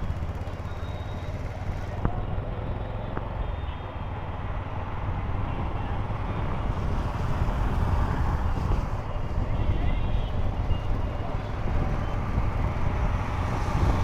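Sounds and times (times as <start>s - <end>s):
motorcycle engine rumble: 0.0s - 14.0s
road noise: 0.0s - 14.0s.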